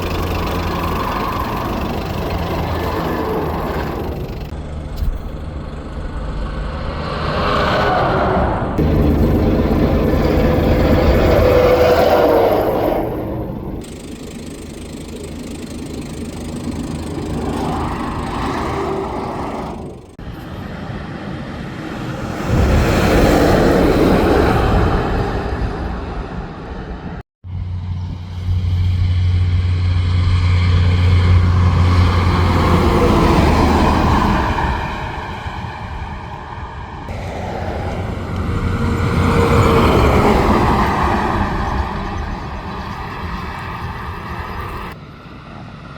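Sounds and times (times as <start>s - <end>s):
heavy truck engine passing: 0.0s - 45.4s
road noise: 0.0s - 45.9s
vehicle approaching: 0.0s - 45.9s.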